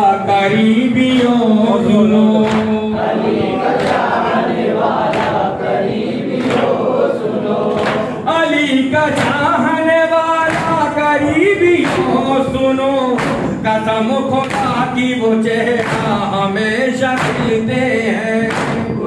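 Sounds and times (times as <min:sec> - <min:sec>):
men singing in chorus: 0:00.0 - 0:19.0
hand claps in unison: 0:00.5 - 0:09.6, 0:10.3 - 0:19.0.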